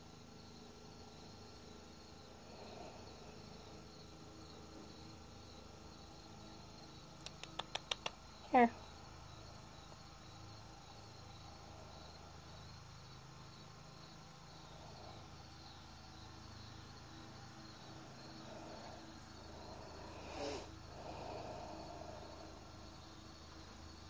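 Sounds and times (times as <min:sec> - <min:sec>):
crickets chirping: 0:00.0 - 0:24.0
low background hum: 0:00.0 - 0:24.0.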